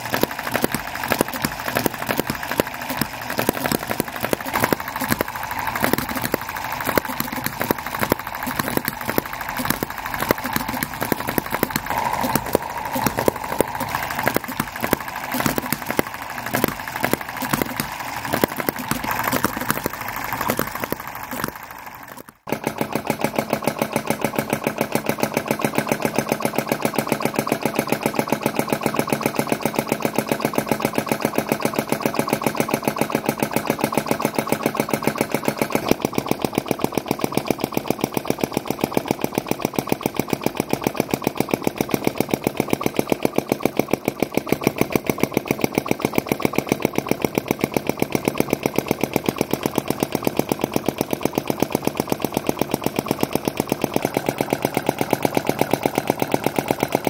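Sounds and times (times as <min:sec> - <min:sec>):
model engine rapid ticking: 0:00.0 - 0:57.0
model engine uneven clatter: 0:00.0 - 0:57.0.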